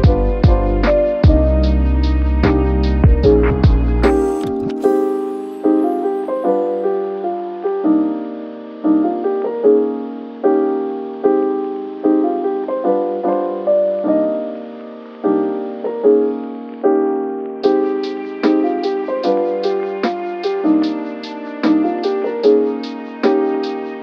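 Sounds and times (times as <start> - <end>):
gentle piano tune: 0.0 - 24.0.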